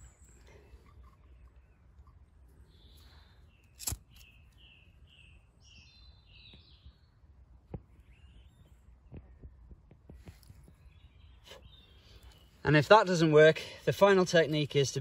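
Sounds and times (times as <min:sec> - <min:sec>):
bird chirping: 0:00.0 - 0:09.7, 0:10.3 - 0:13.2.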